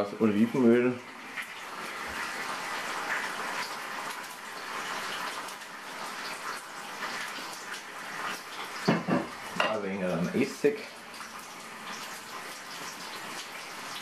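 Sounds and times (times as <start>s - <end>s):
bacon sizzling in a pan: 0.0s - 14.0s.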